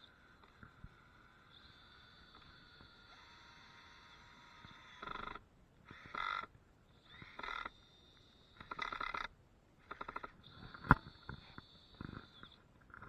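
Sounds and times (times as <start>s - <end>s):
rapid ticking of woodworking tool: 0.0s - 13.0s.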